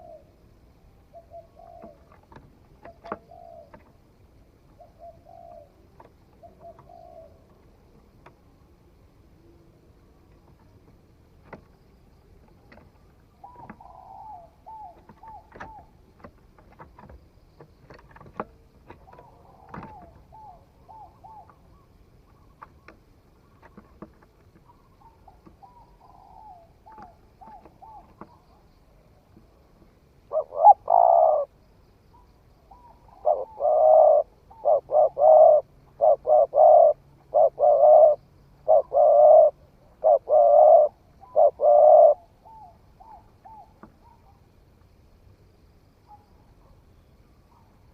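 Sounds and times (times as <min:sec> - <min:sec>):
dove cooing: 0:00.0 - 0:08.4, 0:12.2 - 0:44.6.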